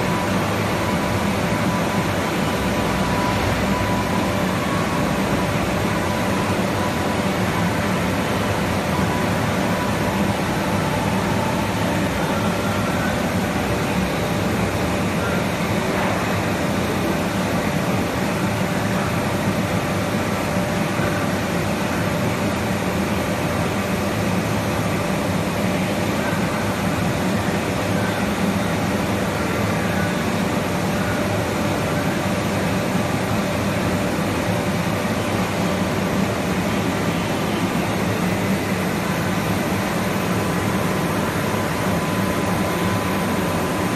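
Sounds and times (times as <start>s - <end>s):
milling machine humming and hissing: 0.0s - 43.9s.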